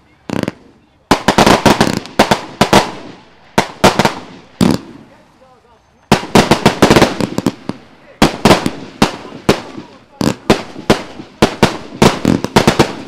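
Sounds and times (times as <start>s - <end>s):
fireworks bangs and bursts: 0.1s - 5.2s, 6.1s - 13.0s.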